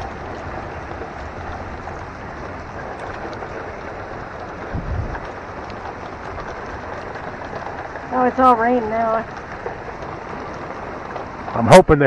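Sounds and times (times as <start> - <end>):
low thunder rumble: 0.0 - 12.0
rain falling: 0.0 - 12.0.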